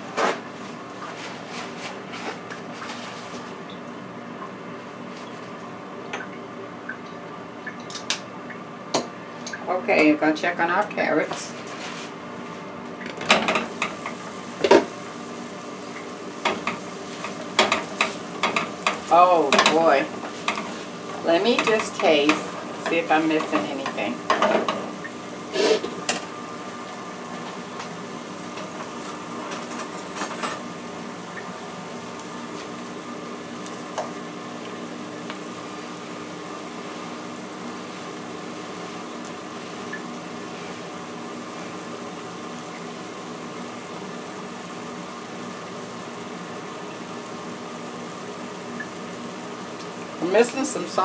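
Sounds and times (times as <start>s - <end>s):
air fryer oven humming: 0.0s - 51.0s.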